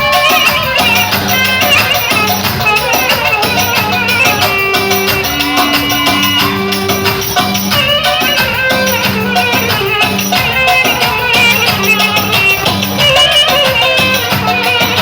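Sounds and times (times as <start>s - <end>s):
upbeat music with rattling percussion: 0.0s - 15.0s.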